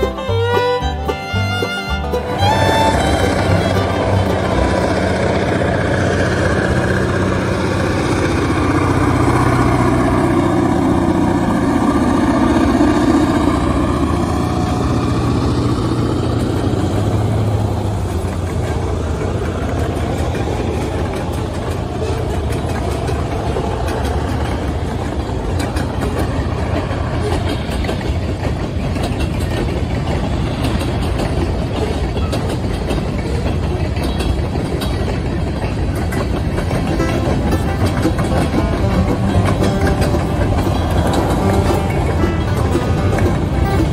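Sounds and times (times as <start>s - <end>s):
diesel locomotive engine passing: 0.0s - 43.9s
freight wheels clattering over rail joints: 0.0s - 43.9s.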